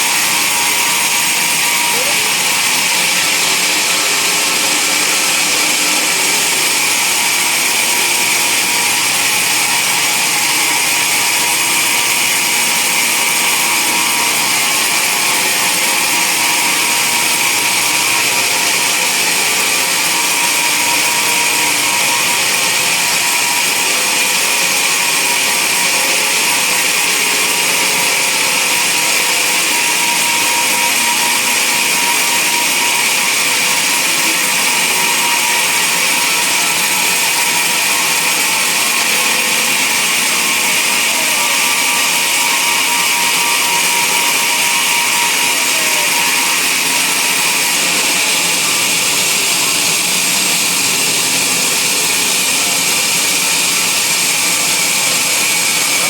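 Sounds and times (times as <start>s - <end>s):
band saw cutting a log: 0.0s - 56.0s.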